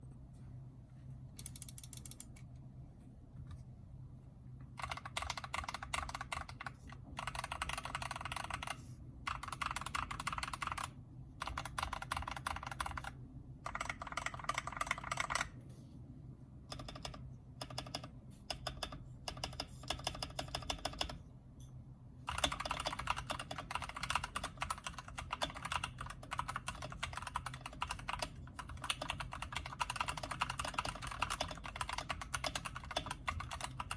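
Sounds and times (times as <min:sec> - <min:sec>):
mechanical keyboard typing: 0:01.4 - 0:02.3, 0:04.8 - 0:15.6, 0:16.7 - 0:21.2, 0:22.3 - 0:33.9.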